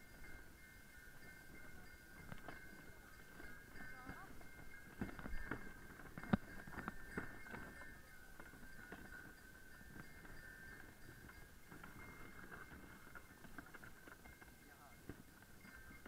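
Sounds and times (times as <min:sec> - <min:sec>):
bell ringing and jingling: 0:00.0 - 0:16.0
horse hooves on snow: 0:00.0 - 0:16.0
hoof and harness clicks: 0:01.2 - 0:16.0.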